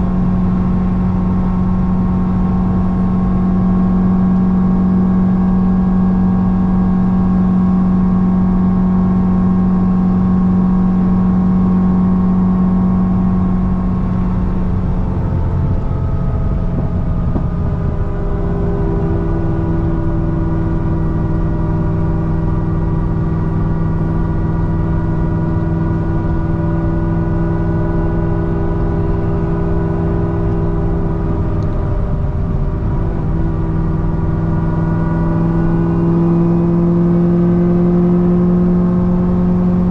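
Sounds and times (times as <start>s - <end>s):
car engine cruising drone: 0.0s - 39.9s.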